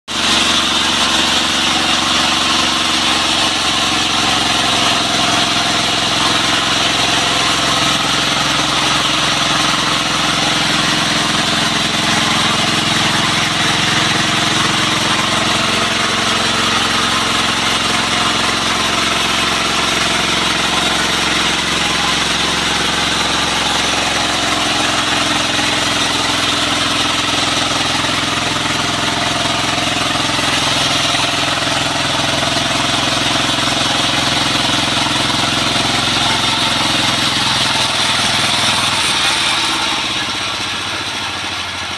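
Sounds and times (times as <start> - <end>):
engine running under load: 0.1 - 41.9.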